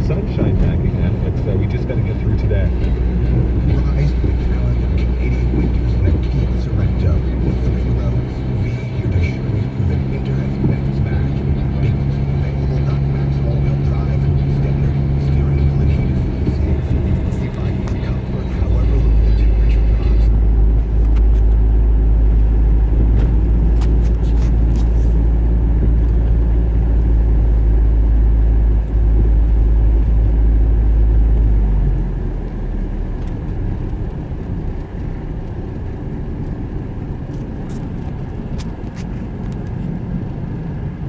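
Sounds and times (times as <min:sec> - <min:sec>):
car tyres and engine rumble: 0:00.0 - 0:41.0.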